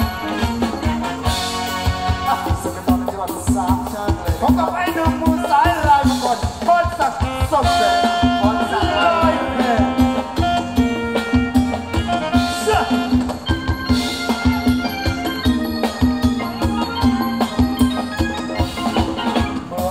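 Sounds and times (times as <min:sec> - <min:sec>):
live band dance music: 0:00.0 - 0:19.9.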